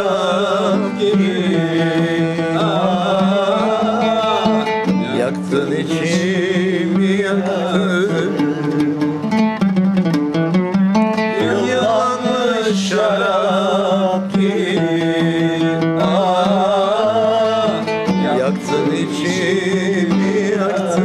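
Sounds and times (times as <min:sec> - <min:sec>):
plucked lute: 0:00.0 - 0:21.0.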